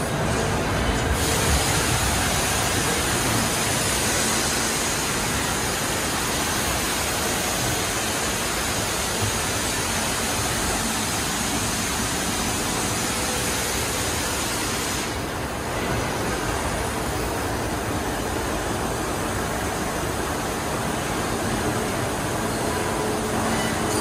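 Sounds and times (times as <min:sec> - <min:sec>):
machining centre rushing hiss: 0:00.0 - 0:24.0.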